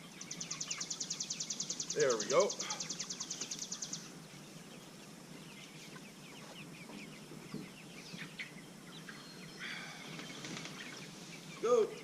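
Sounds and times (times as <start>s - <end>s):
chickens cheeping: 0.0s - 12.0s.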